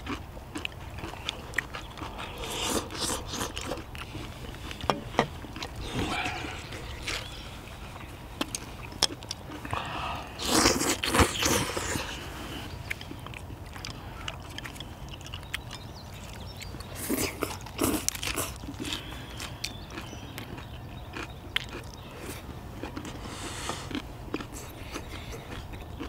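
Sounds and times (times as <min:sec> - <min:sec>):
crunchy bites and chewing: 0:00.0 - 0:26.0.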